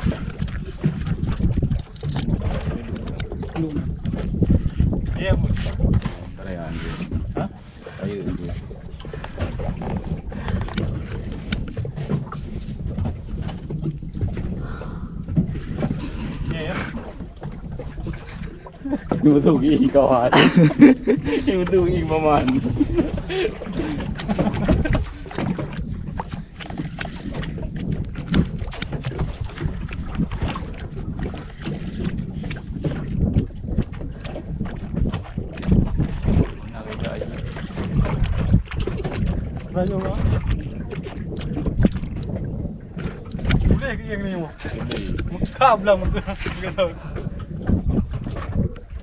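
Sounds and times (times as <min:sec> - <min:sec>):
boat and water noise: 0:00.0 - 0:49.0
speedboat engine rumble: 0:00.0 - 0:49.0
wind buffeting microphone: 0:00.0 - 0:49.0.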